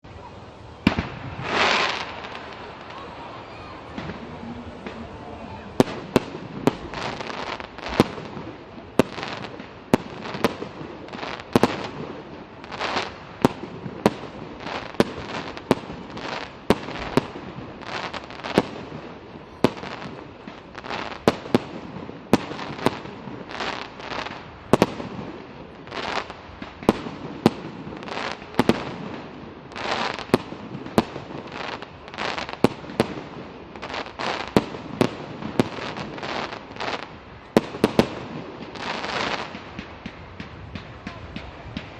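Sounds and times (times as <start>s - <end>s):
fireworks bangs: 0.1s - 41.9s.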